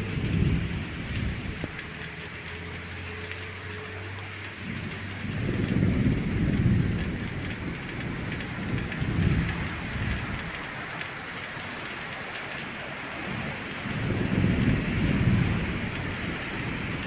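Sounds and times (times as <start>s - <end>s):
low rolling thunder: 0.0s - 17.0s
steady rain hiss: 0.0s - 17.0s.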